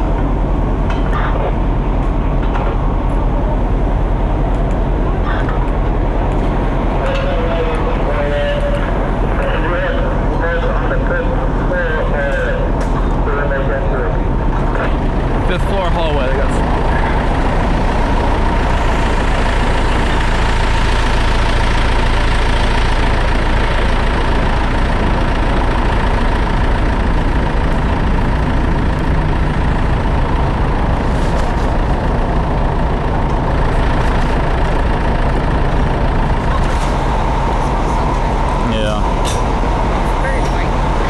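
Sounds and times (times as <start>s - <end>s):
diesel engine droning: 0.0s - 41.0s
high whine: 0.0s - 41.0s.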